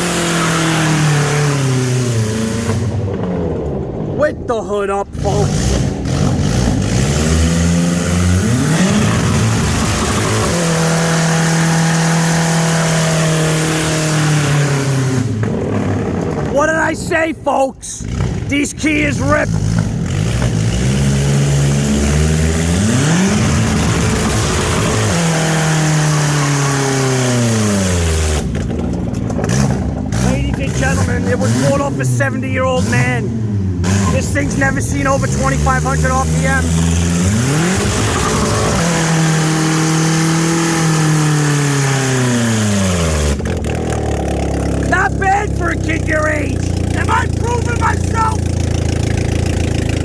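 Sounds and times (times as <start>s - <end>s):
car engine revving hard: 0.0s - 4.2s, 5.1s - 16.7s, 18.0s - 50.0s.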